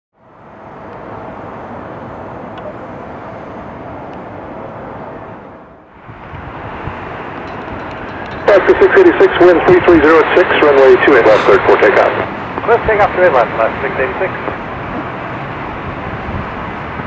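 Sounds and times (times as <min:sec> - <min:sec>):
faint steady whine: 0:00.2 - 0:14.8
distant jet engines rumbling: 0:00.4 - 0:17.0.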